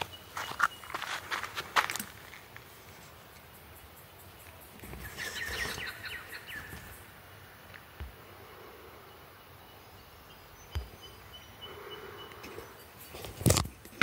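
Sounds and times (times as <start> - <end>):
distant bird calls: 0.0 - 2.3, 2.9 - 14.0.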